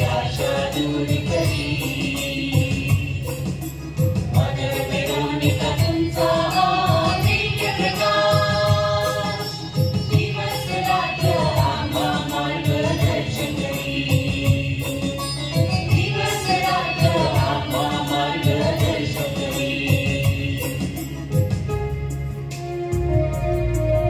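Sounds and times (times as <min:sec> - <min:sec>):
choir singing: 0:00.0 - 0:03.4, 0:04.2 - 0:21.3
keyboard accompaniment: 0:00.0 - 0:24.0.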